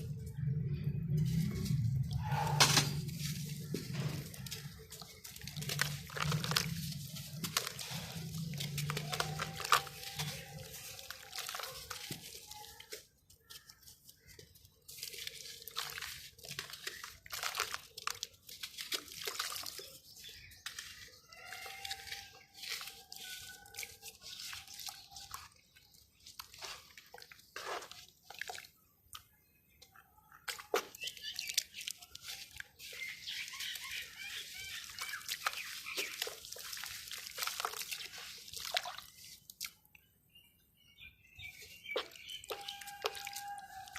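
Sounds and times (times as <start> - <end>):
dripping water: 0.0 - 40.2, 41.5 - 43.9
dirt lumps crumbling into water: 1.2 - 40.1, 41.4 - 43.9.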